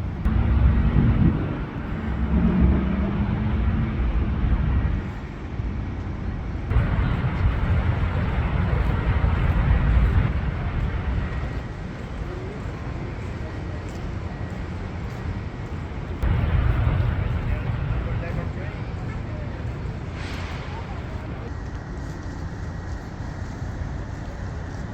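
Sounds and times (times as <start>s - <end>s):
low outdoor rumble: 0.0s - 24.9s
low steady hum: 0.0s - 24.9s
wind buffeting microphone: 0.0s - 24.9s.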